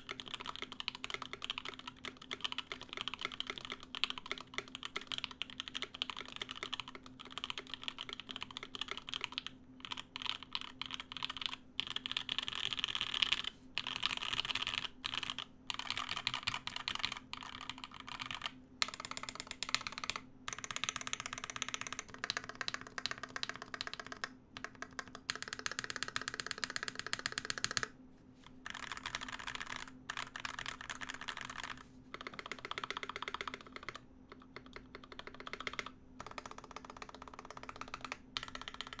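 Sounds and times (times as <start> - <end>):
mechanical keyboard typing: 0.0 - 27.9, 28.6 - 39.0.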